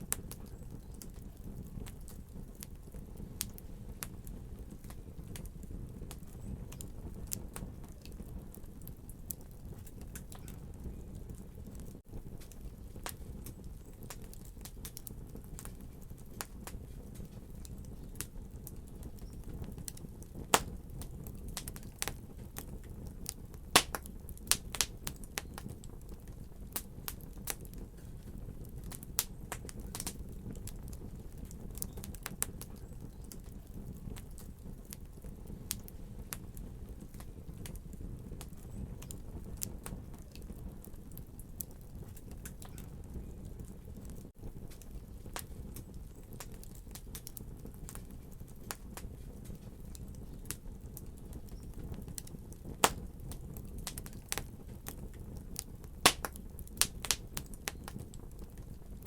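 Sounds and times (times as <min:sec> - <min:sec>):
fire popping and snapping: 0:00.0 - 0:59.0
low rumble of flames: 0:00.0 - 0:59.0.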